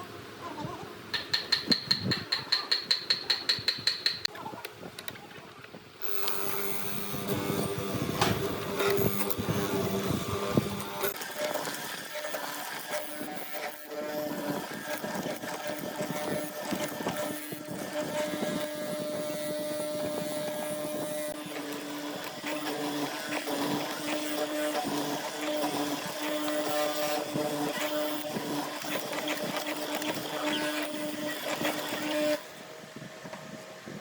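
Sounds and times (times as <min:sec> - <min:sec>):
machine motor humming: 0:06.0 - 0:33.6.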